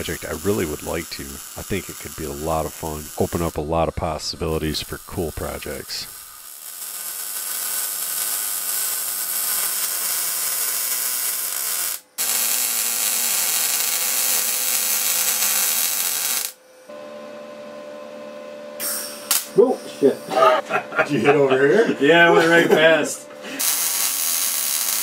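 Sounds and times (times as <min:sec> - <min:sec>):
welder arc sizzling: 0:00.0 - 0:17.0, 0:18.8 - 0:25.0.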